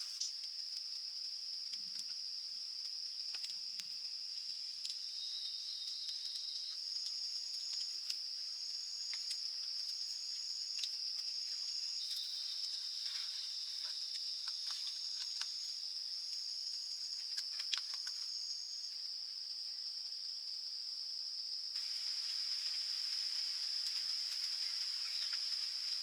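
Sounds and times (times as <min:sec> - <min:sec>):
insect trills: 0:00.0 - 0:26.0.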